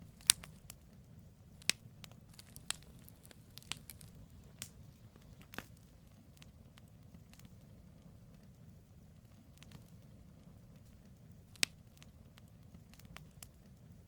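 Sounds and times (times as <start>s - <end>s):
campfire crackling and popping: 0.0s - 14.0s
low rumble of flames: 0.0s - 14.0s.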